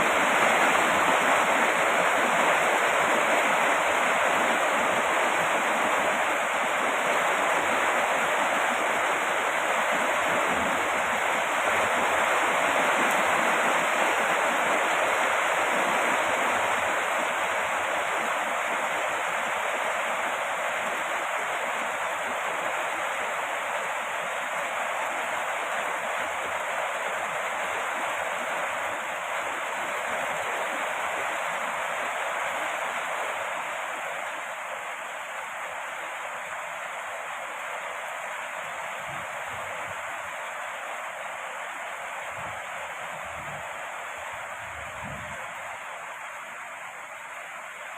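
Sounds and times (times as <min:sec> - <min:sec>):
heavy rain hiss: 0:00.0 - 0:47.9.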